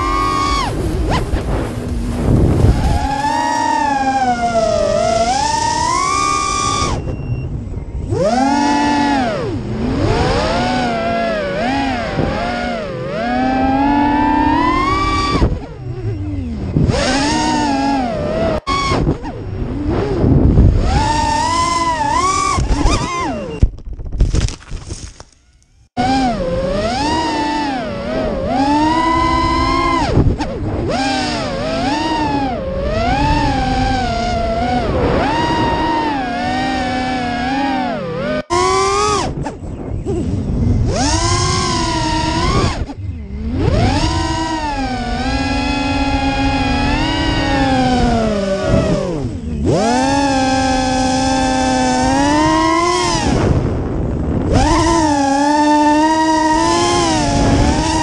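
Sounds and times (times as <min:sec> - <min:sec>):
drone motors whining: 0:00.0 - 0:24.3, 0:25.0 - 0:58.0
rushing wind noise: 0:00.0 - 0:25.1, 0:28.1 - 0:37.4, 0:38.5 - 0:58.0.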